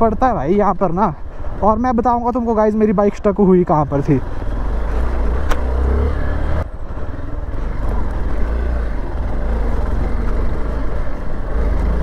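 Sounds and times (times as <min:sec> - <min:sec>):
ride noise: 0:00.0 - 0:12.0.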